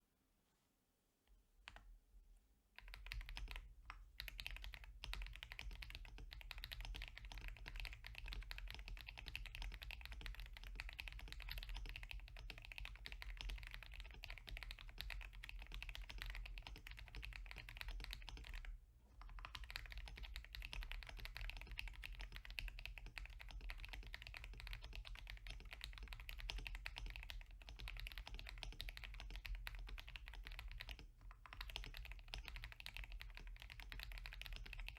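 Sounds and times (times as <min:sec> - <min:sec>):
mechanical keyboard typing: 0:02.8 - 0:03.6, 0:04.2 - 0:34.9.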